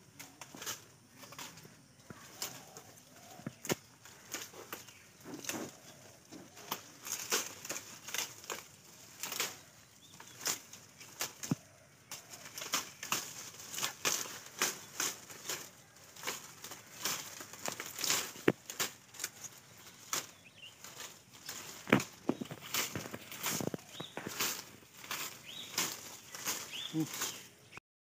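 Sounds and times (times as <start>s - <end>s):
leaves rustling: 0.0s - 27.8s
tea shoots snapping: 0.2s - 27.5s.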